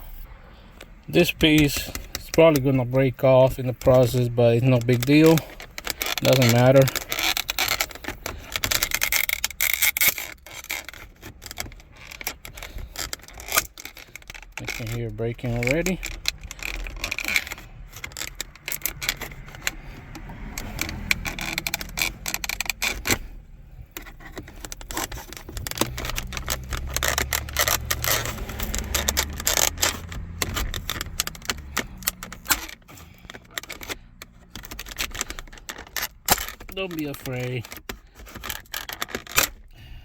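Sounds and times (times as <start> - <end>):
plastic clicking and snapping: 0.8 - 39.9
screwdriver prying plastic: 1.3 - 2.8, 3.4 - 39.8.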